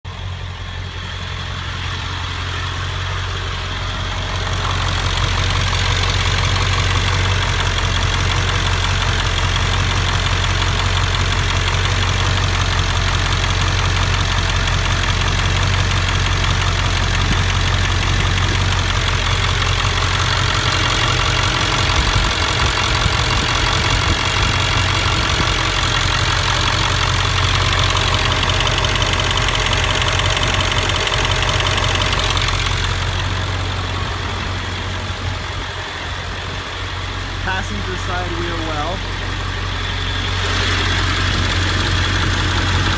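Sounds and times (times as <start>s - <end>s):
engine idling with tick: 0.1s - 42.9s.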